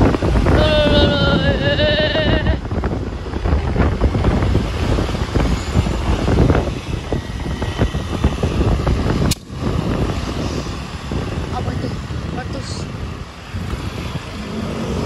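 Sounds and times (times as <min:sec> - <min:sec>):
vehicle road noise: 0:00.0 - 0:15.0
wind buffeting microphone: 0:00.0 - 0:15.0.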